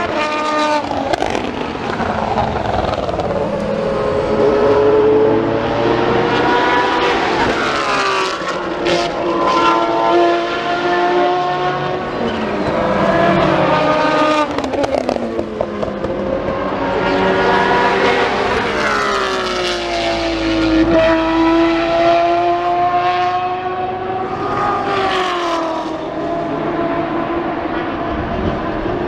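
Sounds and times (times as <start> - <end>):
race car engines passing: 0.0 - 29.0.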